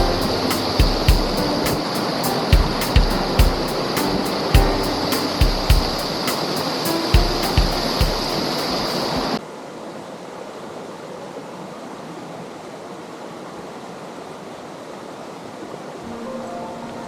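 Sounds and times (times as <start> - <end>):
stream and waterfalls rushing: 0.0 - 17.0.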